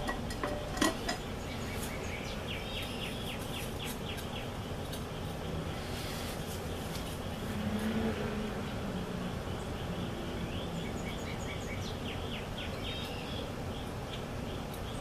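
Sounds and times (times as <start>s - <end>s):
bird chirping: 0.0s - 7.5s, 8.6s - 15.0s.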